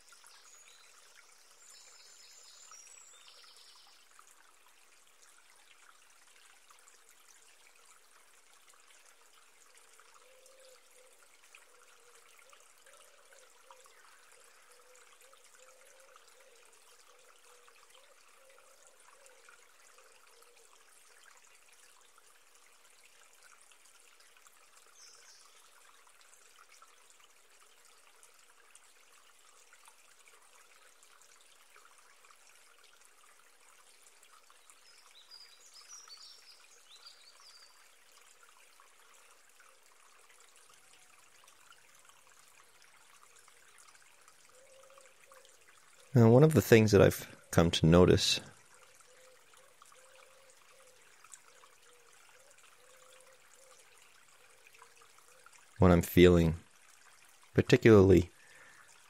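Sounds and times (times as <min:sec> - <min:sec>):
trickle of running water: 0:00.0 - 0:59.0.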